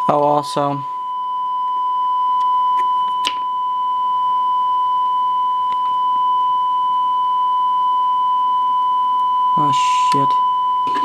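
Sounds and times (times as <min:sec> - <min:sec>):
steady test tone: 0:00.0 - 0:11.0.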